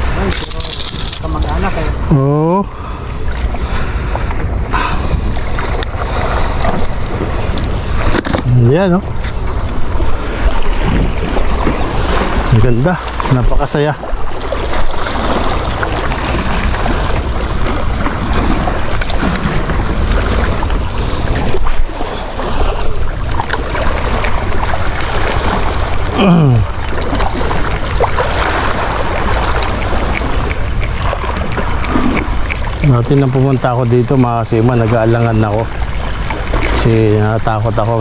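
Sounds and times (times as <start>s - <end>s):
sea surf: 0.0s - 38.0s
wind buffeting microphone: 0.0s - 38.0s.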